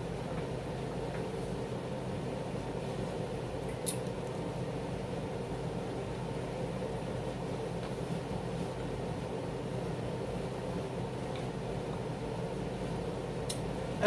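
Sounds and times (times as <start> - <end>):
air conditioner fan humming: 0.0 - 14.0.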